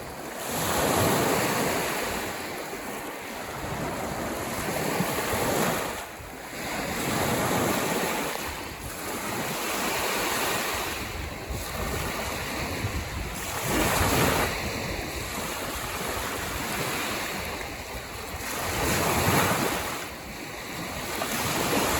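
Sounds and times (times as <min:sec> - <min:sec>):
lake waves washing onto shore: 0:00.0 - 0:21.9
wind buffeting microphone: 0:00.0 - 0:21.9.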